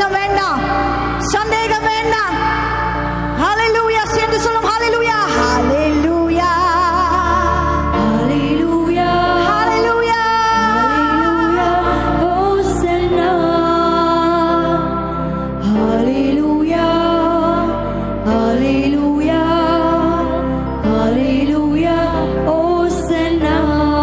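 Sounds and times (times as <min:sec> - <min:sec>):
women singing worship song: 0:00.0 - 0:24.0.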